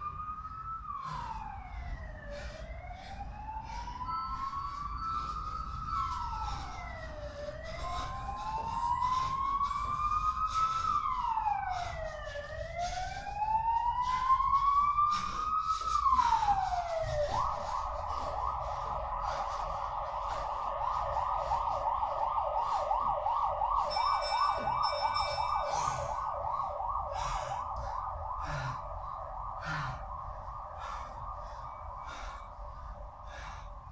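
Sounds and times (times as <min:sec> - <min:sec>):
emergency siren wailing: 0:00.0 - 0:33.9.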